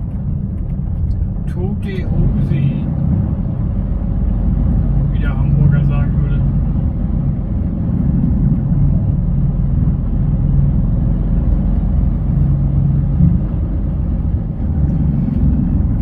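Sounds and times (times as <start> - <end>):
droning hum: 0.0 - 16.0
lorry diesel engine rumble: 0.0 - 16.0.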